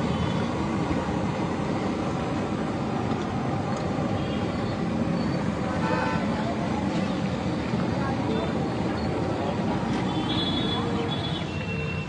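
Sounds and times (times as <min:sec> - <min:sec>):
gas burner roaring: 0:00.0 - 0:10.8.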